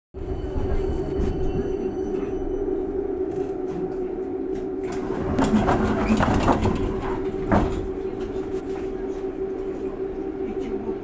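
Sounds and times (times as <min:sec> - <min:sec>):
tram electric drive whine: 0:00.2 - 0:11.0.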